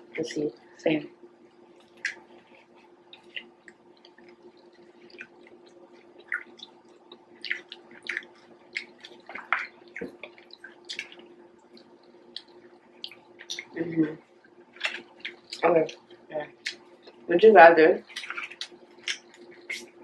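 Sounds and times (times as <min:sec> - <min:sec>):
faint steady hum: 0:00.0 - 0:20.0
chewing and mouth smacks: 0:01.4 - 0:13.8, 0:14.4 - 0:17.3, 0:18.0 - 0:20.0.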